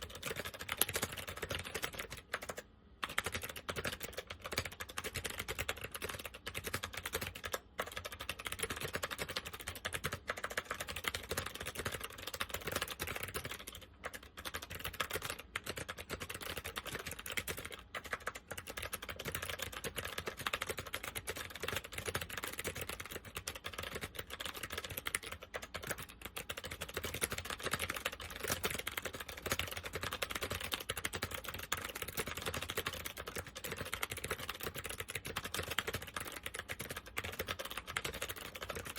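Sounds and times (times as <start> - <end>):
clicky keyboard typing: 0.0 - 38.9.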